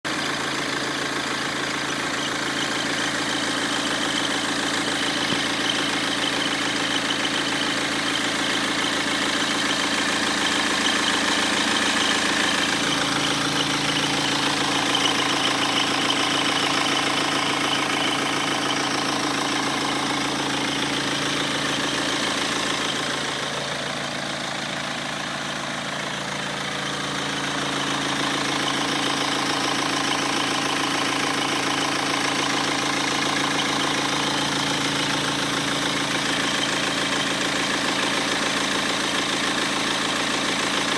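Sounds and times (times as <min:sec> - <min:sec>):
rough diesel engine idling: 0:00.0 - 0:40.9.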